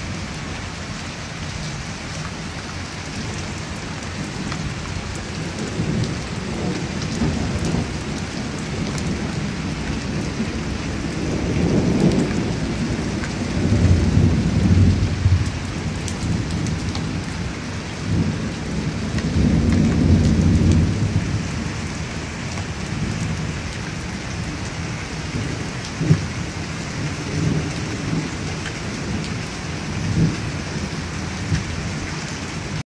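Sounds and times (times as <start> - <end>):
rain falling: 0.0 - 32.8
thunder rumbling: 3.2 - 32.8.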